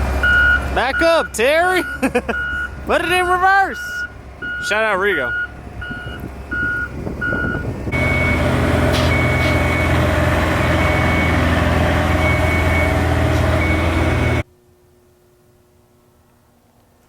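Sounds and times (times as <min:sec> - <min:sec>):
truck engine running: 0:00.0 - 0:14.4
reversing alarm beeping: 0:00.2 - 0:14.4.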